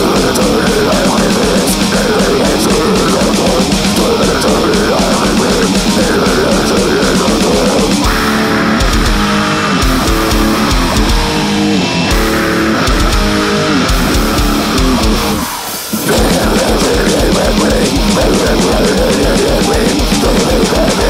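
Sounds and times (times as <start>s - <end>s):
bass guitar: 0.0s - 21.0s
distorted electric guitar riff: 0.0s - 21.0s
pounding drums: 0.0s - 21.0s.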